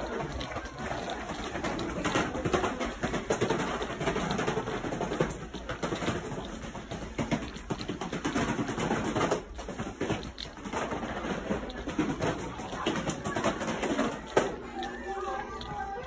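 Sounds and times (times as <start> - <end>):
cardboard boxes clattering onto tile: 0.0 - 14.5.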